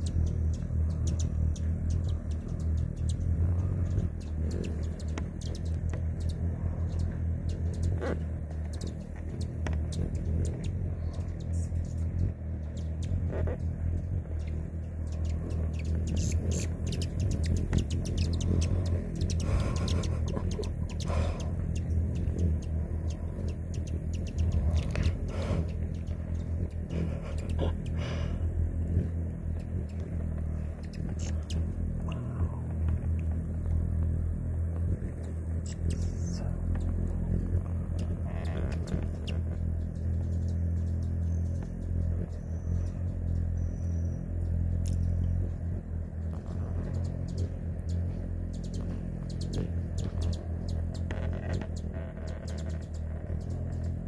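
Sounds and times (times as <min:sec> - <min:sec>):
hummingbird wings humming: 0:00.0 - 0:54.0.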